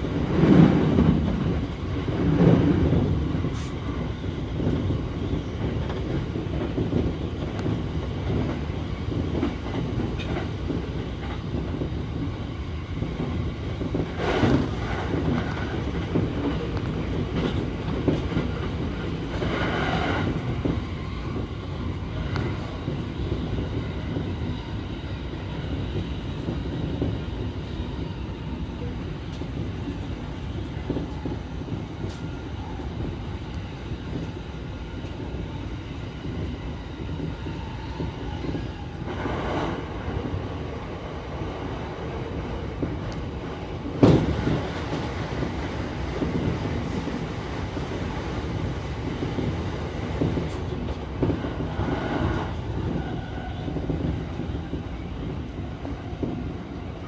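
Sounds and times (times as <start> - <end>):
clickety-clack over track: 0.0 - 57.0
train wheels rumbling: 0.0 - 57.0.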